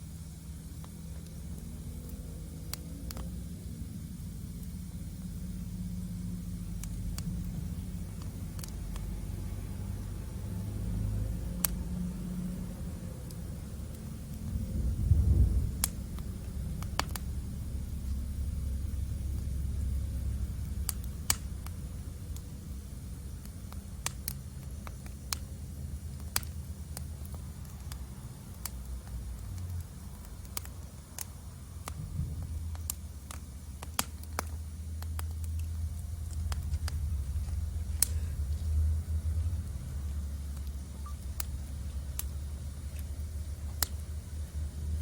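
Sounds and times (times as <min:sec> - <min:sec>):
low rumble: 0:00.0 - 0:45.0
wood fire crackling and popping: 0:00.0 - 0:45.0.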